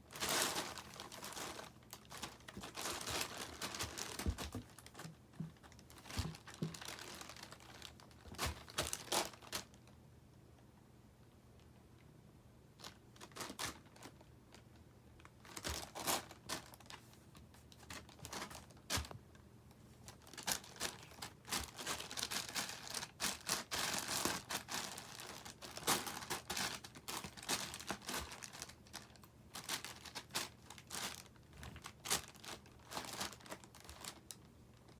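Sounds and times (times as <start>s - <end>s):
wrapper rustling and crackling: 0.0s - 9.9s, 12.8s - 19.2s, 19.9s - 34.9s.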